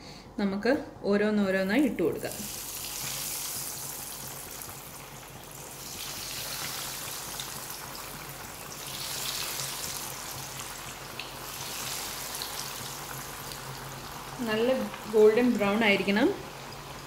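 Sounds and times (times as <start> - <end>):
cutlets sizzling in hot oil: 1.7 - 17.0.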